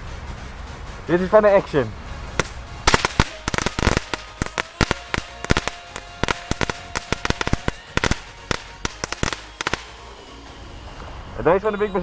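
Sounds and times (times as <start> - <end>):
firecrackers cracking rapidly: 0.0 - 10.8.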